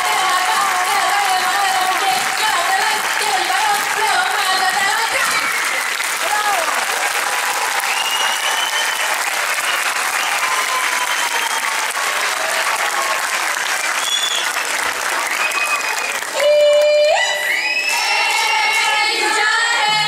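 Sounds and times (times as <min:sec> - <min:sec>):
audience applauding: 0:00.0 - 0:19.4.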